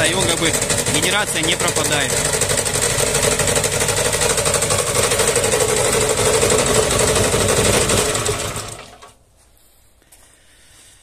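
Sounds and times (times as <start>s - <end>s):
generator petrol engine running: 0.0s - 9.2s.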